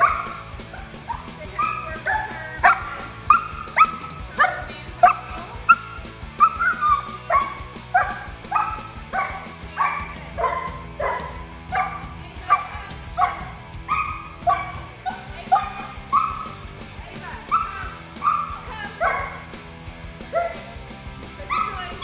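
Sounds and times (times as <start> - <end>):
dog yelping and crying: 0.0 - 16.6, 17.4 - 19.4, 20.3 - 20.7, 21.4 - 22.0.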